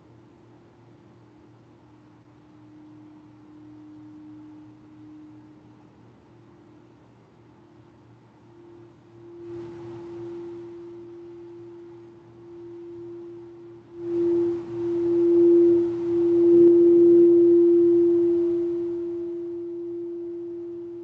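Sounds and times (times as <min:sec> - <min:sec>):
singing bowl tone: 0:01.4 - 0:21.0.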